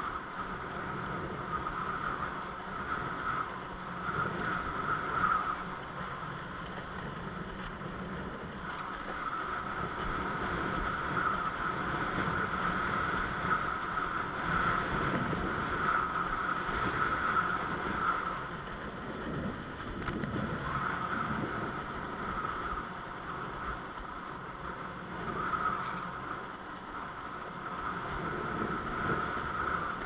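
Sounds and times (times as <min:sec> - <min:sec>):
water rushing along hull: 0:00.0 - 0:30.0
wind on microphone: 0:00.0 - 0:30.0.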